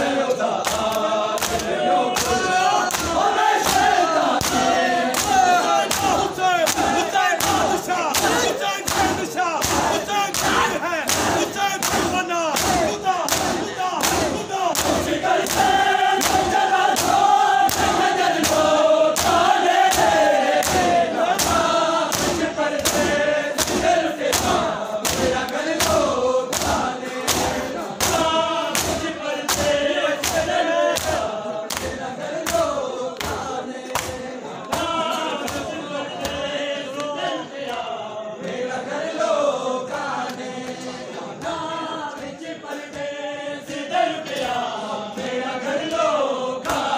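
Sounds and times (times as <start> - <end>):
crowd slapping chests in unison: 0.0 - 46.9
men chanting together: 0.0 - 46.9.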